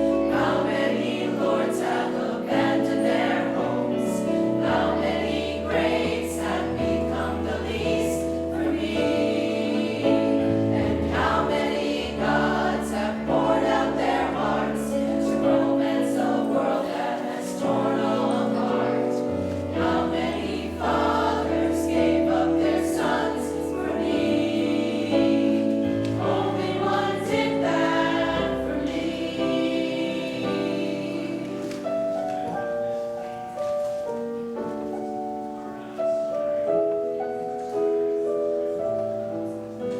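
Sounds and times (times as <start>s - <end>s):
choir singing: 0.0s - 32.4s.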